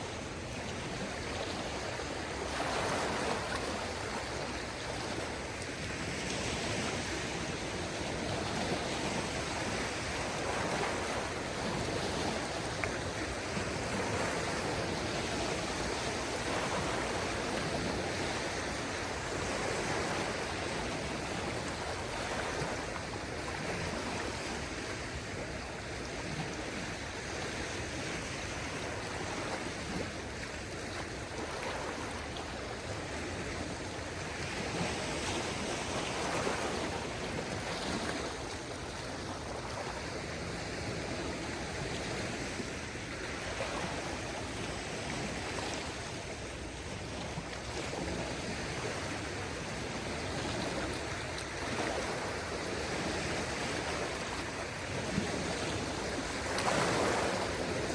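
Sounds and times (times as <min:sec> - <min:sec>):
small waves washing onto shore: 0:00.0 - 0:57.9.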